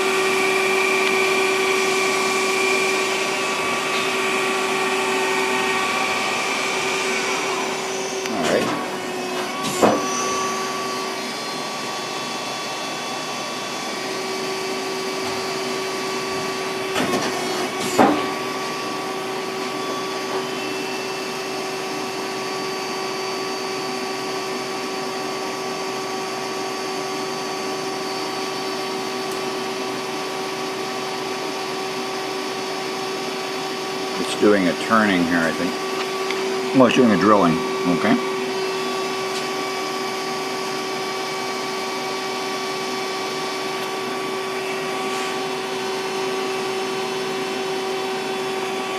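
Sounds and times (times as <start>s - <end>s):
lathe machine hum and whine: 0.0s - 48.9s.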